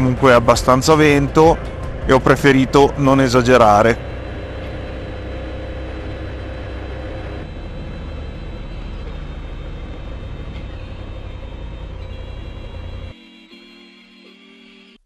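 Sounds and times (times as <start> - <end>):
wind and road noise: 0.0 - 13.1
motorcycle engine running: 0.0 - 13.2.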